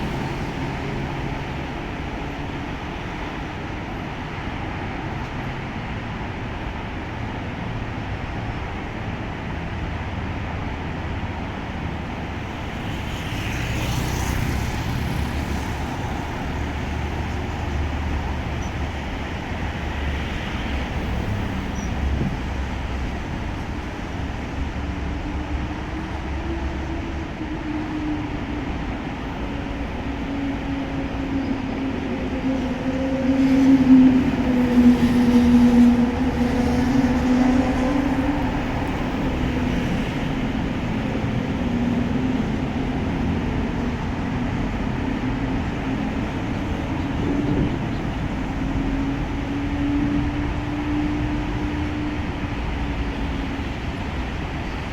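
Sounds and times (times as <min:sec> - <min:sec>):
freight train low rumble: 0:00.0 - 0:54.9
locomotive engine droning: 0:00.0 - 0:54.9.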